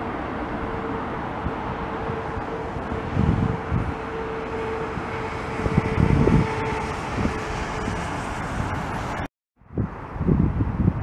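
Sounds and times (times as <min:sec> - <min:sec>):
jet engines roaring with whine: 0:00.0 - 0:10.1
wind buffeting microphone: 0:00.0 - 0:11.0.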